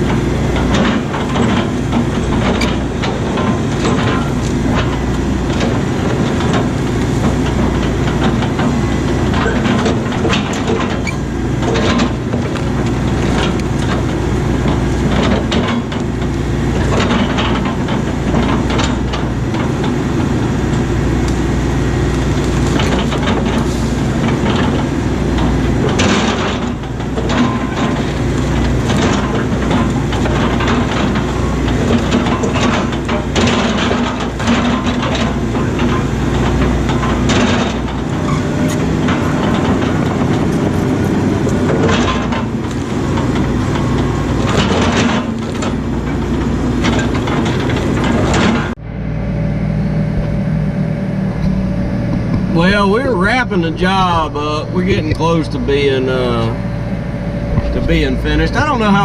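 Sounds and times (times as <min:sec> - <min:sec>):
machine knocks and clatter: 0:00.0 - 0:48.8
excavator diesel engine running: 0:00.0 - 0:59.0.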